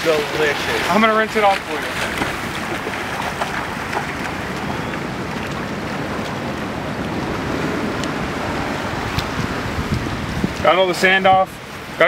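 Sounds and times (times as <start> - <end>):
small waves washing: 0.0 - 12.0
wind on microphone: 1.8 - 12.0.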